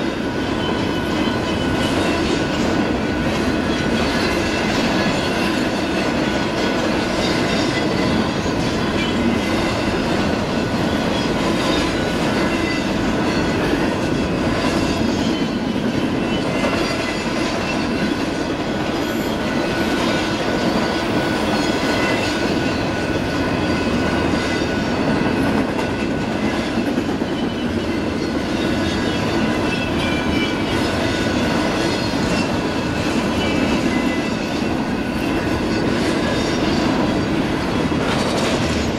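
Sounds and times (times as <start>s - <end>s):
train wheels rumbling and clattering: 0.0s - 38.9s.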